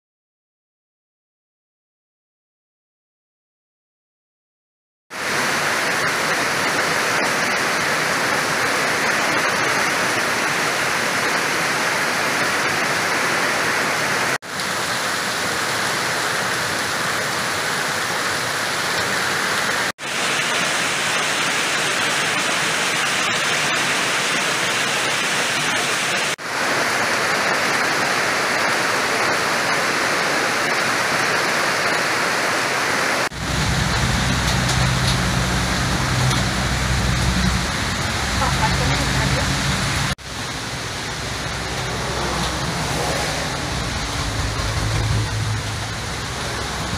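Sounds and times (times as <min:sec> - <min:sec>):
heavy rain pouring: 0:05.1 - 0:46.9
runoff streaming off roof: 0:05.1 - 0:46.9.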